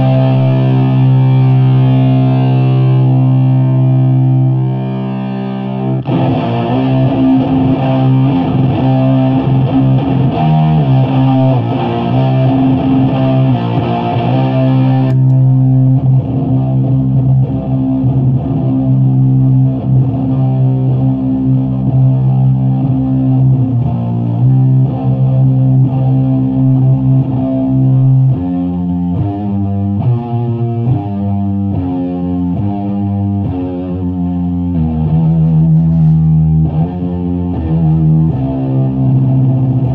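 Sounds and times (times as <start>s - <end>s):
distorted electric guitar chords: 0.0s - 39.9s.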